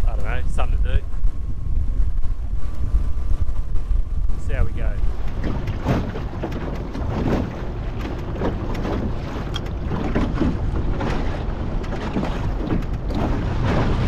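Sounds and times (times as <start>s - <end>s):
wind buffeting microphone: 0.0s - 14.0s
water slapping against hull: 0.1s - 14.0s.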